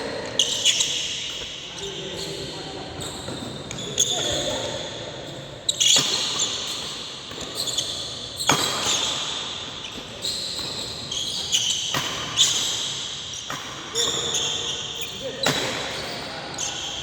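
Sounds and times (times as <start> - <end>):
shoes squeaking on court: 0.2 - 17.0.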